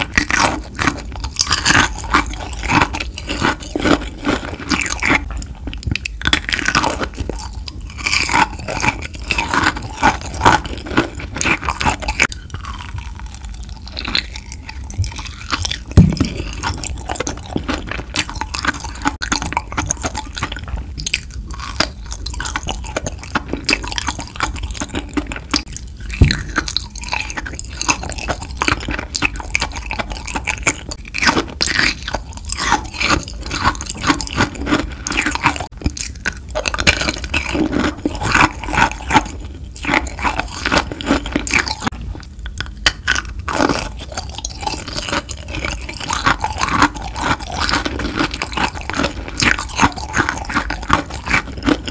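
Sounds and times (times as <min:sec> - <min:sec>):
crunchy candy chewing: 0:00.0 - 0:51.9.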